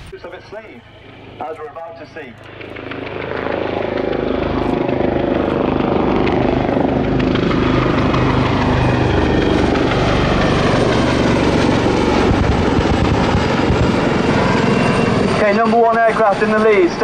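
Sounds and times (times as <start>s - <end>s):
helicopter rotor beat: 0.0s - 17.0s
turbine engine whine: 0.0s - 17.0s.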